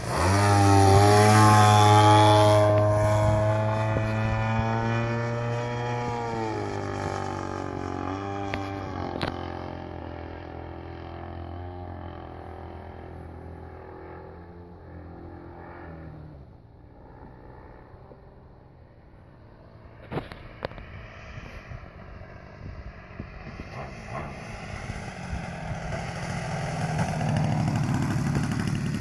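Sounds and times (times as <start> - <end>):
model airplane engine running: 0.0 - 29.0.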